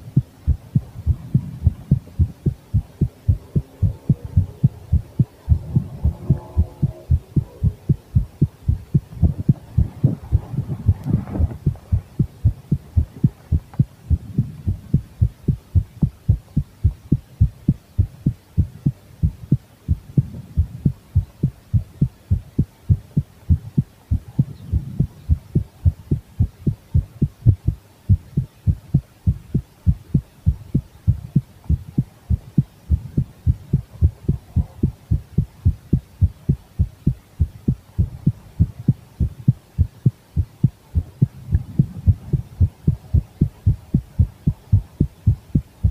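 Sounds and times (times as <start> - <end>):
heartbeat thumps: 0.0 - 45.9.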